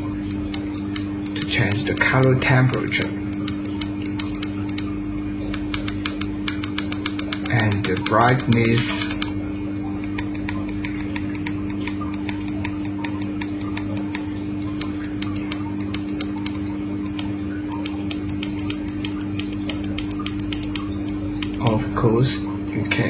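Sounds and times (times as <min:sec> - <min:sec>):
rapid small clicks: 0:00.0 - 0:09.4, 0:10.0 - 0:22.0
electrical hum: 0:00.0 - 0:23.0.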